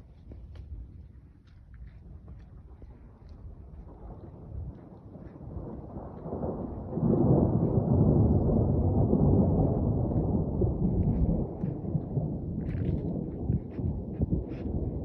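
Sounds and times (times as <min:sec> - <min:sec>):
thunder rumble: 0:02.6 - 0:15.0.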